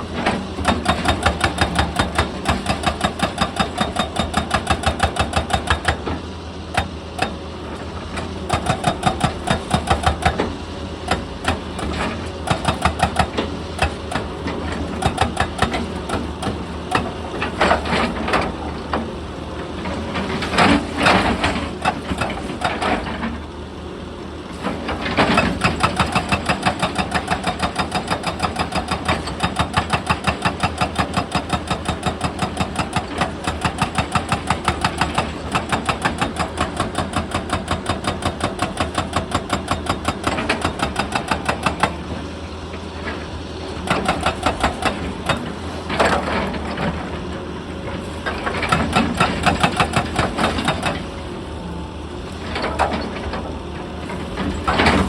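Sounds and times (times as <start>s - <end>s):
hydraulic breaker hammering rock: 0.0s - 19.1s, 19.8s - 23.5s, 24.5s - 51.4s, 52.4s - 55.0s
excavator engine running: 0.0s - 55.0s.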